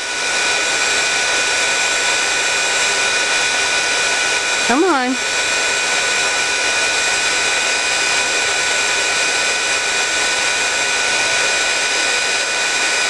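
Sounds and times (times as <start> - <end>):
heat gun blowing air: 0.0 - 13.0.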